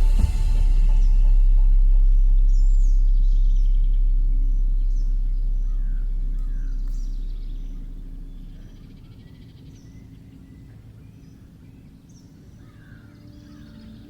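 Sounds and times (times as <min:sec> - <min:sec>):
deep meditation drone: 0:00.0 - 0:11.5, 0:12.4 - 0:14.0
birds chirping: 0:00.0 - 0:14.0.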